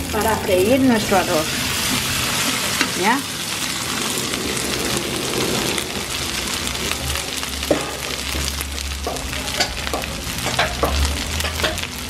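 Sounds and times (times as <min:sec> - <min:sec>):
rice sizzling in oil: 0:00.0 - 0:12.0.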